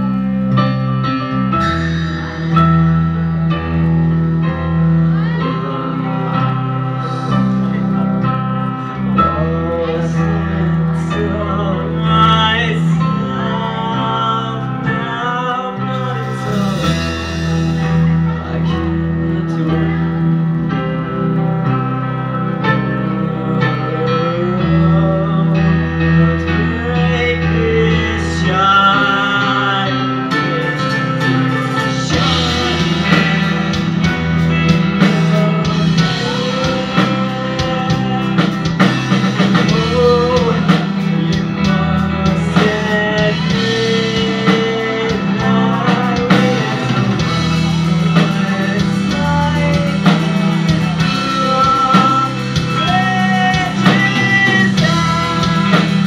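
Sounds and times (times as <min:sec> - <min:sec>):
drums: 0:00.0 - 0:56.0
metal band playing live: 0:00.0 - 0:56.0.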